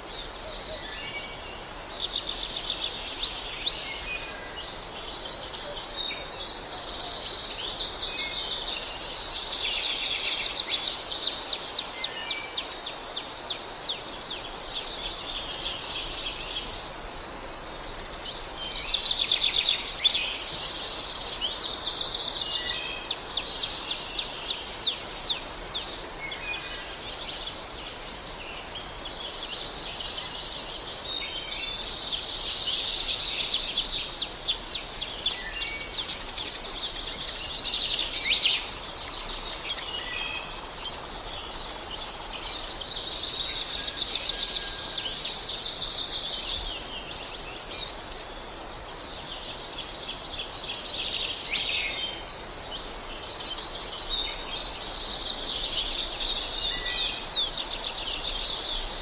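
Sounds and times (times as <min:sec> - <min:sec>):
songbirds singing trills: 0:00.0 - 0:59.0.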